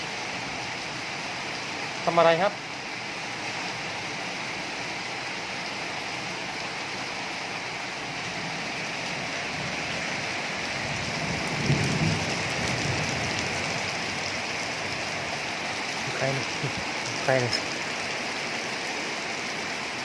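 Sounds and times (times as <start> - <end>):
rain pattering on surfaces: 0.0 - 20.0.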